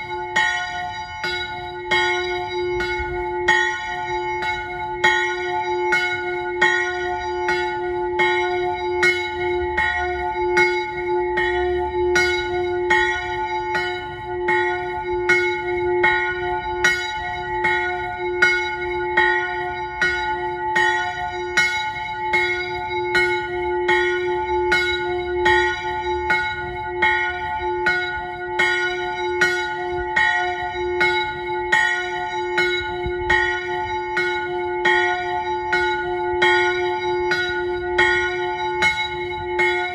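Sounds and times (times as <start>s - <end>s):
chapel bell ringing: 0.0s - 39.9s.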